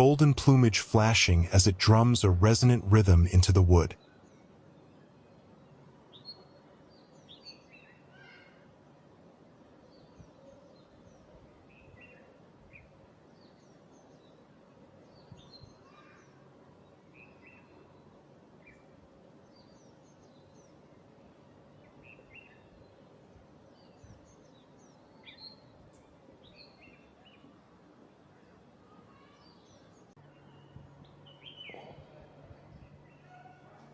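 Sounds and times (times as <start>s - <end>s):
low background hum: 0.0s - 33.9s
faint bird chirps: 4.0s - 8.8s, 9.6s - 27.6s, 28.3s - 33.8s.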